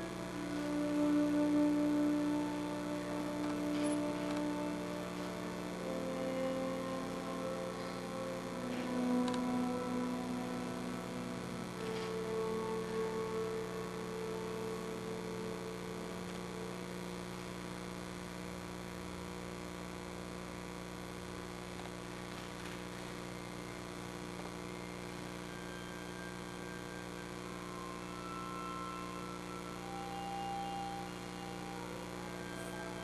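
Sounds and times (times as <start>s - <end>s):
faint high held tones: 0.0s - 17.7s, 23.2s - 33.0s
held musical tone: 0.0s - 17.8s, 23.2s - 33.0s
electrical mains hum: 0.0s - 33.0s.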